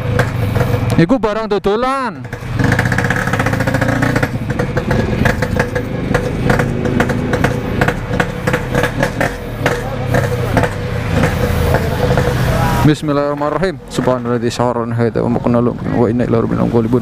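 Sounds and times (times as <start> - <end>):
engine crackles: 0.0 - 17.0
motorcycle engine idling: 0.0 - 17.0.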